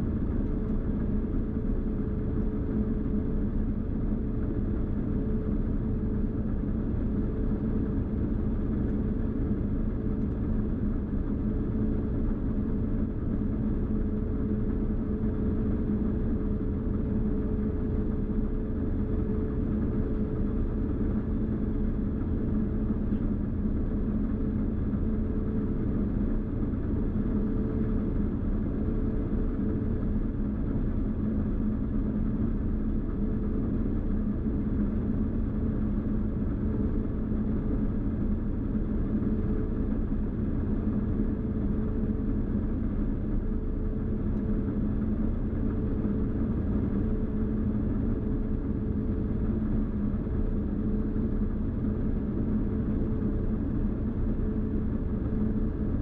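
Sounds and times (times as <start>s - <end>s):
combine harvester low drone: 0.0s - 56.0s
steady hum: 0.0s - 56.0s.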